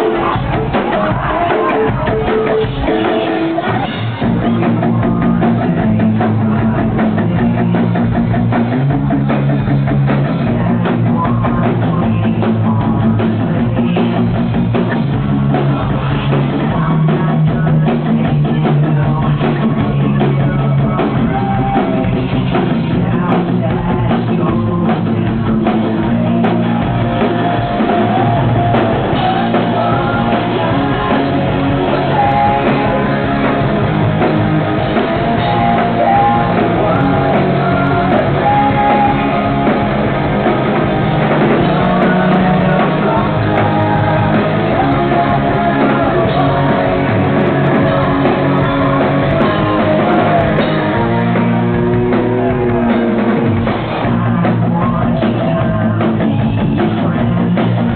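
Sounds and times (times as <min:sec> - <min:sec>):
lead singer singing: 0:00.0 - 0:57.9
rock band playing: 0:00.0 - 0:57.9.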